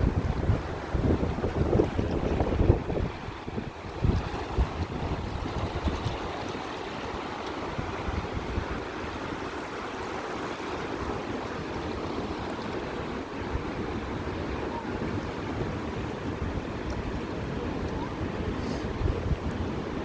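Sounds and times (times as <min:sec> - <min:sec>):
river water rushing: 0:00.0 - 0:20.0
wind buffeting microphone: 0:00.0 - 0:20.0.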